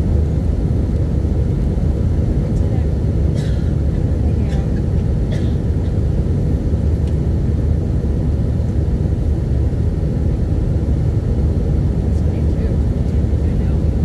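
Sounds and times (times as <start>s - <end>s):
jet engines at climb power: 0.0s - 14.0s.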